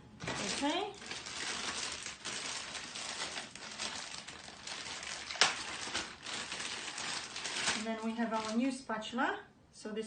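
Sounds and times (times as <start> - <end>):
plastic packaging rustling: 0.2 - 8.8.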